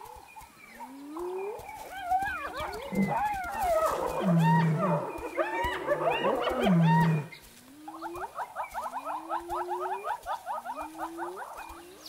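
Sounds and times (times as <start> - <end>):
hyena pitched calls: 1.2 - 11.5.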